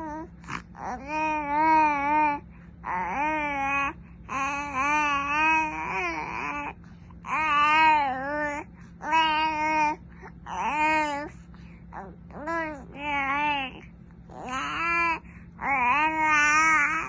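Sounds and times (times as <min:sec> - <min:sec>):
baby vocalising: 0:00.0 - 0:11.4, 0:12.0 - 0:17.0.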